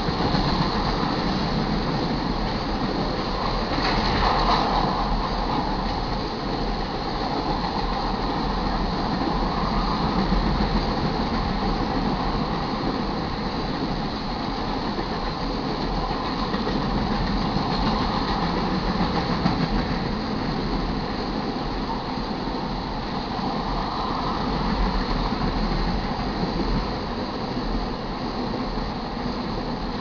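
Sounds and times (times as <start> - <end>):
freight train wheels on rails: 0.0 - 30.0.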